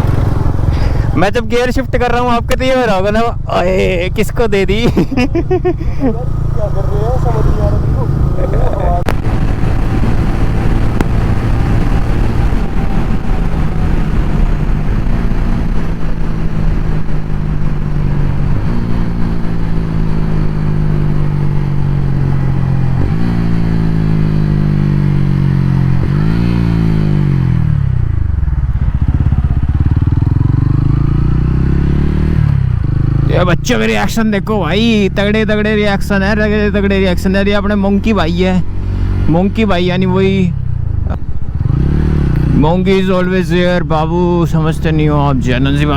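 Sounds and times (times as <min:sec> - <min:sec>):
motorcycle engine revving through gears: 0:00.0 - 0:01.2, 0:06.0 - 0:45.9.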